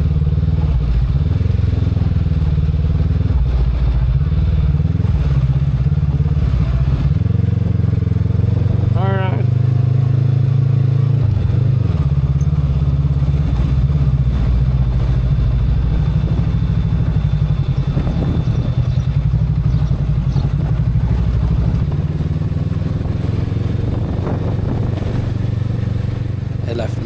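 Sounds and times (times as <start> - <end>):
motorcycle engine throbbing: 0.0 - 27.0.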